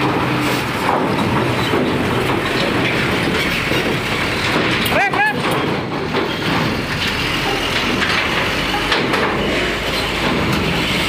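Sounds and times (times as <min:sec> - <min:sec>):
heavy truck engines running: 0:00.0 - 0:11.0
vehicles rattling over steel ramp: 0:00.0 - 0:11.0.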